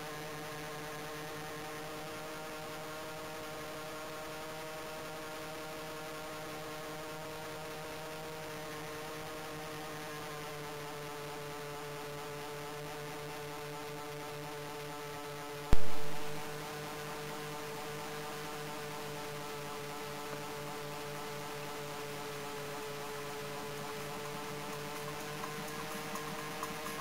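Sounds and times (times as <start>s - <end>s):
model airplane motors droning: 0.0s - 27.0s.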